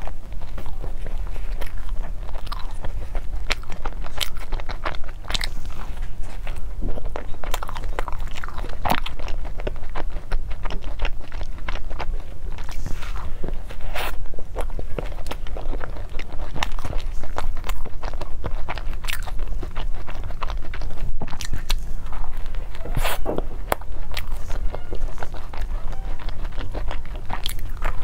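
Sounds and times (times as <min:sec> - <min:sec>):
chewing: 0:00.0 - 0:28.0
crunchy pastry crackles: 0:00.0 - 0:28.0.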